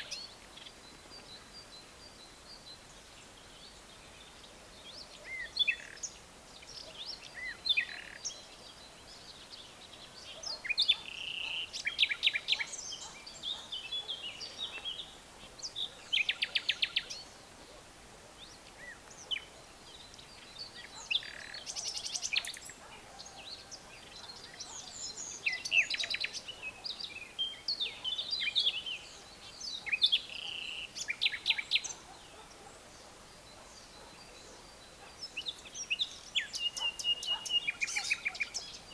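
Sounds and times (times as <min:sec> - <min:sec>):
faint steady hiss: 0:00.0 - 0:38.9
songbirds chirping: 0:00.0 - 0:38.9.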